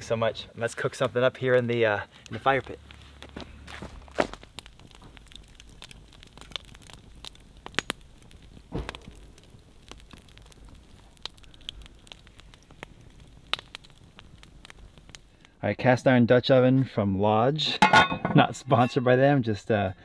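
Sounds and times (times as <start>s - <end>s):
wood fire crackling and popping: 0.0s - 19.1s.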